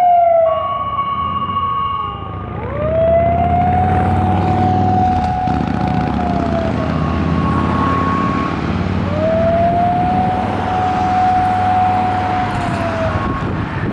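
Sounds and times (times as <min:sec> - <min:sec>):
fainter higher tone: 0:00.0 - 0:13.6
electronic siren wailing: 0:00.0 - 0:13.9
road and engine rumble: 0:00.0 - 0:13.9.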